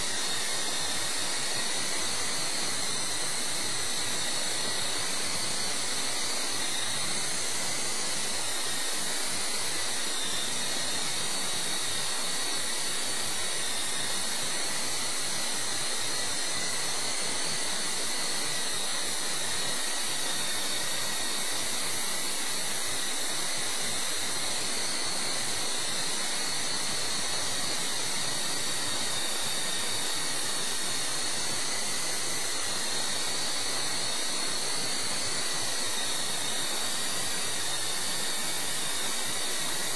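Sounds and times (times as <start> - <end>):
electric motor high whine: 0.0 - 39.9.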